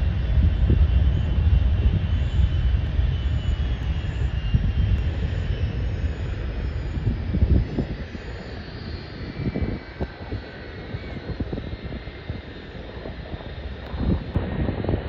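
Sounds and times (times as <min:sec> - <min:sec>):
faint high whine: 0:00.0 - 0:15.0
jet engines rumbling: 0:00.0 - 0:15.0.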